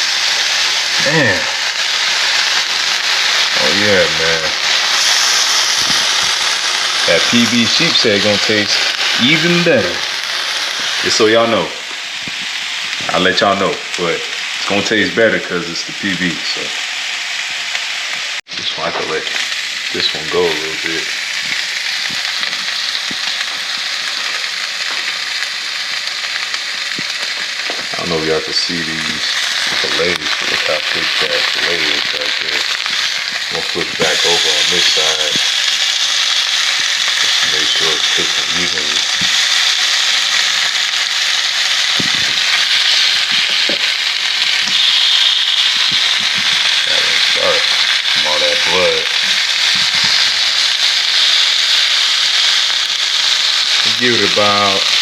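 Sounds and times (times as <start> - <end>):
fish frying sizzle: 0.0 - 55.0
oil crackles: 0.0 - 55.0.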